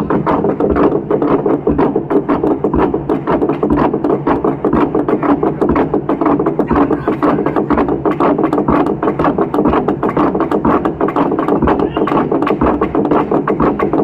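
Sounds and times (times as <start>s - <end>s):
long drum beaten rhythmically: 0.0s - 14.0s.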